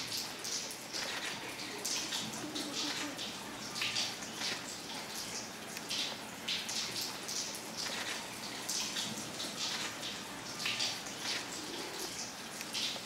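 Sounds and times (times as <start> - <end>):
running water splashing: 0.0 - 13.0.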